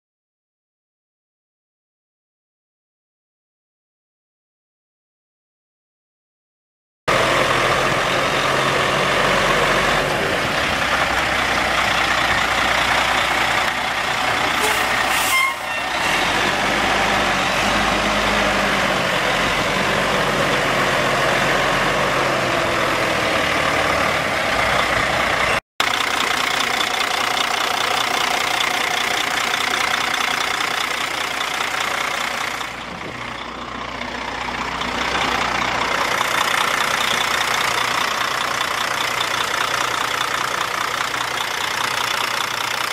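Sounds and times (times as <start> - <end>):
diesel truck engine idling: 7.1 - 42.9.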